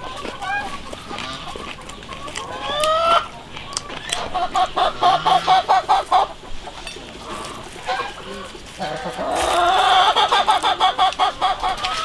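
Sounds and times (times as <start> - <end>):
chicken squawking and clucking: 0.0 - 12.0.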